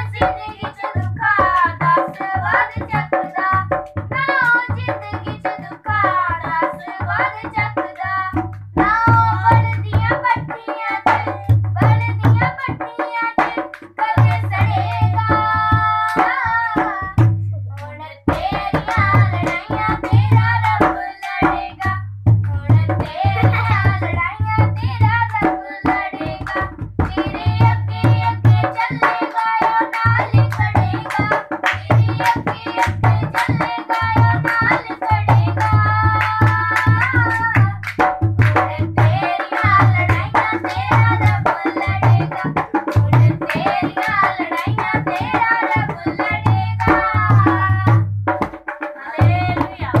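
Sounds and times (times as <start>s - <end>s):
drum beat: 0.0s - 17.4s, 18.3s - 50.0s
voices singing worship song: 0.0s - 50.0s.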